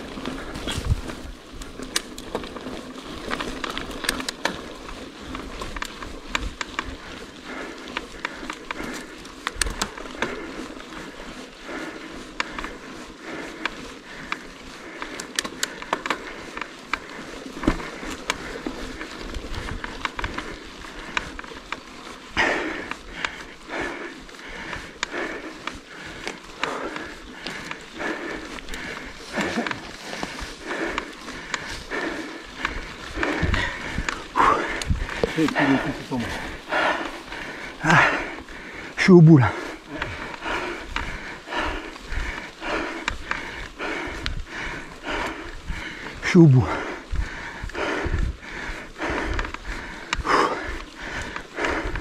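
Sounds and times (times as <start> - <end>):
bike rattling and clicking: 0.0 - 52.0
bike tyres rolling on dirt: 0.0 - 52.0.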